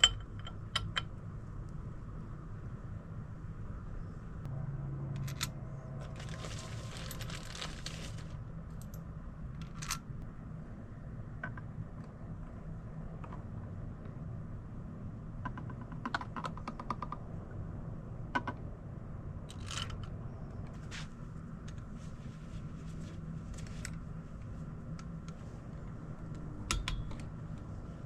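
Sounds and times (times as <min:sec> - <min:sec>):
steady low hum: 0:00.0 - 0:16.1, 0:17.1 - 0:28.0.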